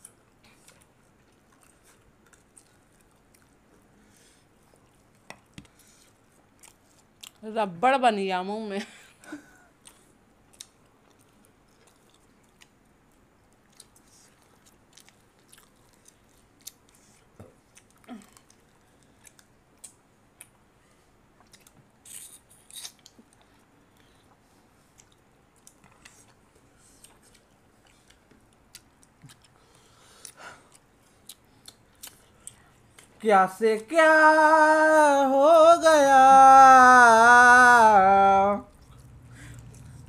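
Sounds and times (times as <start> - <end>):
people chewing wetly: 0.0 - 7.4, 9.3 - 33.2, 38.7 - 40.0.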